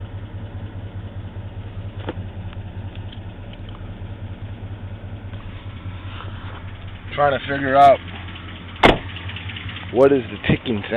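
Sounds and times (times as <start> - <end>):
engine idling with ticking knock: 0.0 - 10.9.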